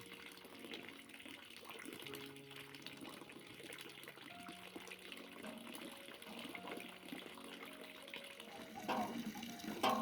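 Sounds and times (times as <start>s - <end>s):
water filling container: 0.0s - 10.0s.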